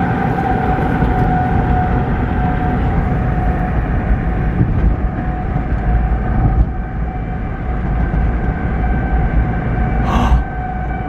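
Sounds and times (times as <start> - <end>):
vehicle rumble: 0.0 - 11.0
warning siren steady tone: 0.0 - 11.0.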